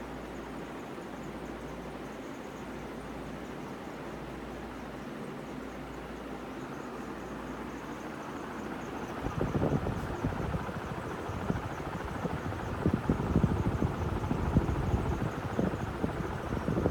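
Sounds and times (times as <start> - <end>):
ceiling fan air rush and hum: 0.0 - 16.9.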